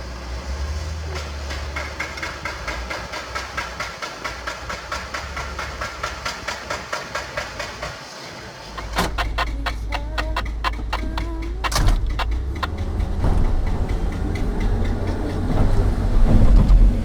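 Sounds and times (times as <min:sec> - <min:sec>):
diesel machinery clattering: 0:00.0 - 0:17.0.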